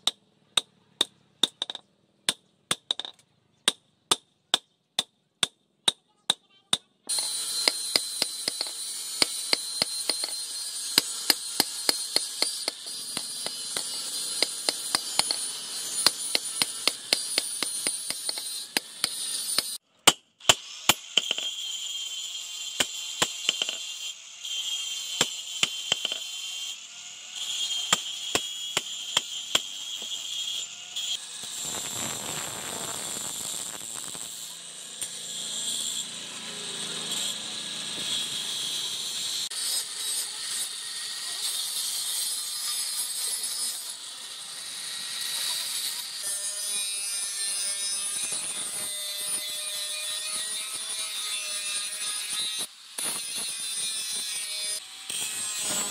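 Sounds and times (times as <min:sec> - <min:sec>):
angle grinder grinding steel: 0:07.1 - 0:19.8, 0:20.6 - 0:55.9.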